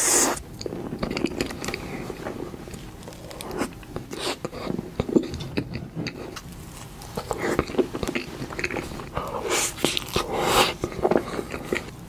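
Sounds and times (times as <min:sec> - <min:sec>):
chewing soft cake: 0:00.0 - 0:12.0.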